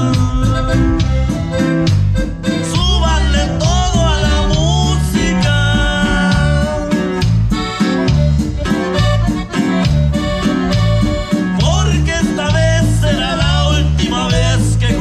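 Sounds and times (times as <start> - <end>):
accordion playing: 0.0 - 15.0
steady bass line: 0.0 - 15.0.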